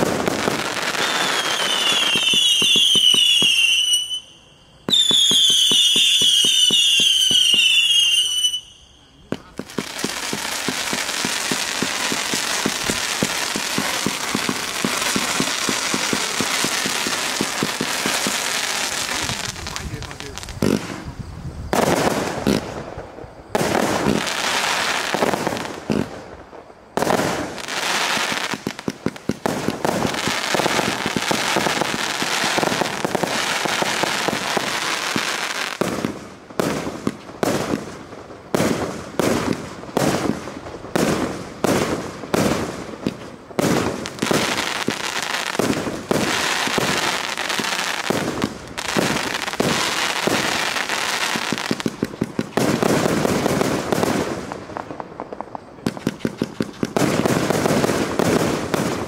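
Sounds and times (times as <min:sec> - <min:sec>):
fireworks launching and bursting: 0:00.0 - 0:59.0.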